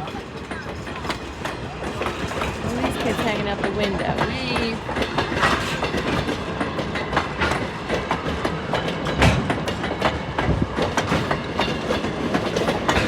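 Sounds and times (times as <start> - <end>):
train coach rumble: 0.0 - 13.0
wheels clicking on rails: 0.0 - 13.0.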